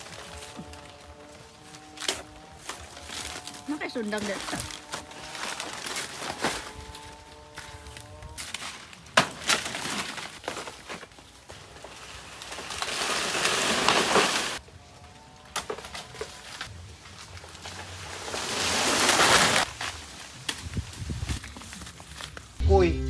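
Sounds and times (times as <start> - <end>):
leaves rustling and tearing: 0.0 - 22.6.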